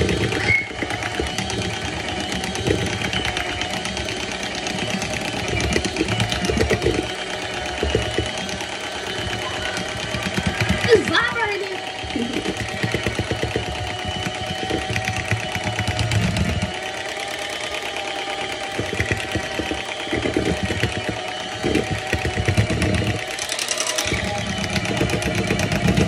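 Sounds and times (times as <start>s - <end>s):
electric hand mixer whipping batter: 0.0s - 26.0s.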